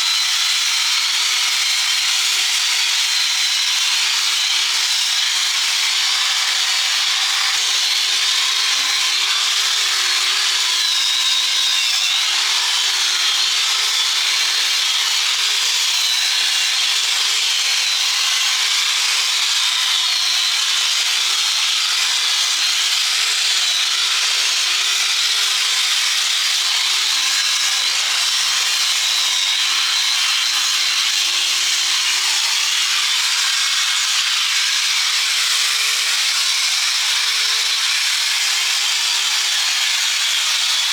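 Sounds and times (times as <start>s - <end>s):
angle grinder grinding steel: 0.0s - 40.9s.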